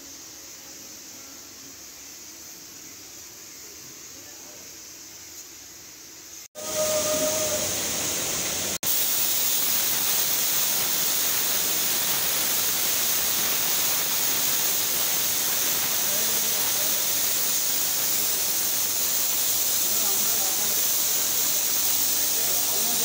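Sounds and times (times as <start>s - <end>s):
spray gun hissing: 0.0s - 23.0s.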